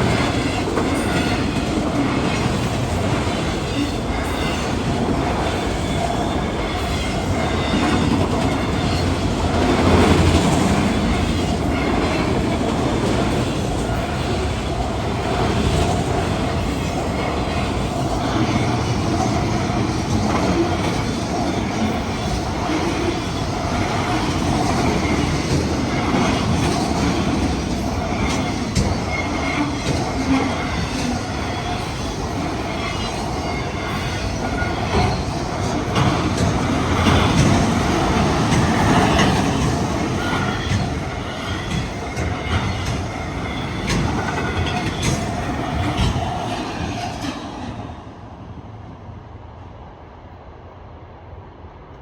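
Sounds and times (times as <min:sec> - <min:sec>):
rail joint clicks: 0:00.0 - 0:48.3.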